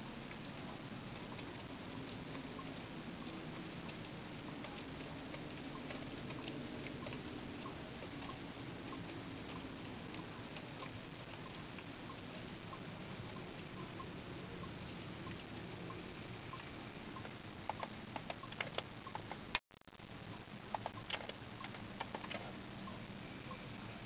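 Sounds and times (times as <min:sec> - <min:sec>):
faint motor hum: 0:00.0 - 0:24.0.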